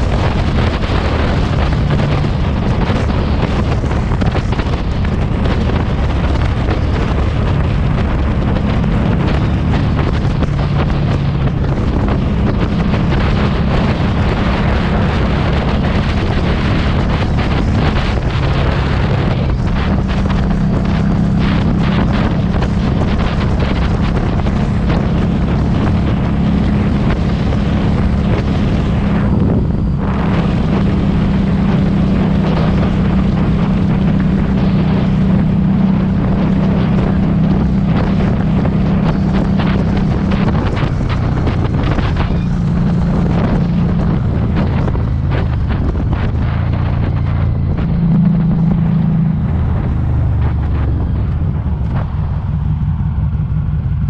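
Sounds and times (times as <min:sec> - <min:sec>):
motorcycle engine running: 0:00.0 - 0:54.0
wind buffeting on microphone: 0:00.0 - 0:54.0.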